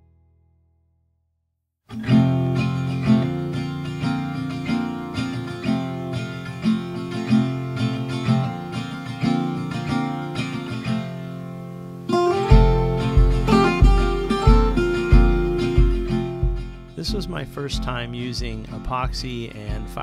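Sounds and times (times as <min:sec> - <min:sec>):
strummed acoustic guitar music: 0:01.9 - 0:20.0.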